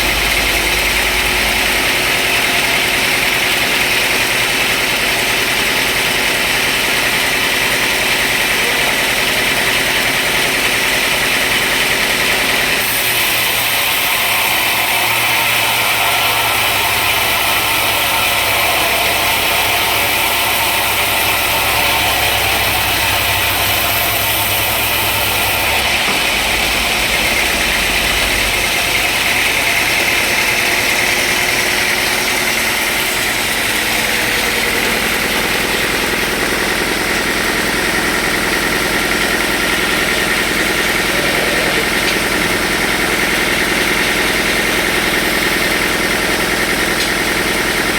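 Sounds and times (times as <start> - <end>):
deep hum: 0.0 - 5.6, 12.8 - 46.3
sawmill machinery running: 0.0 - 47.9.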